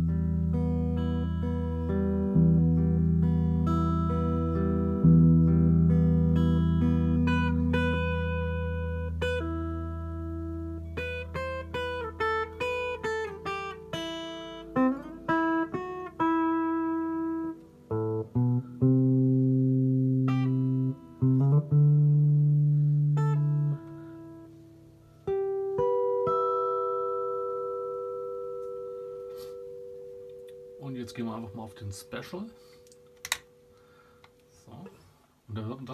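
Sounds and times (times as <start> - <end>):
guitar with reverb: 0.0 - 35.9.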